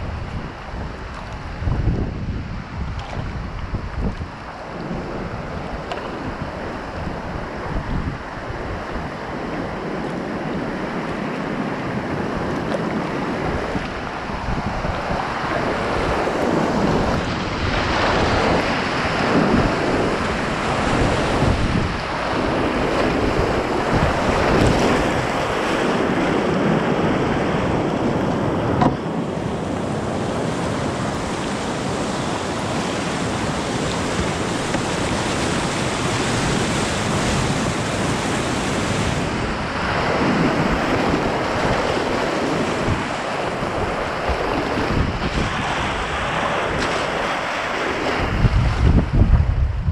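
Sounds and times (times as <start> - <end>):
rapids rushing and splashing: 0.0 - 49.9.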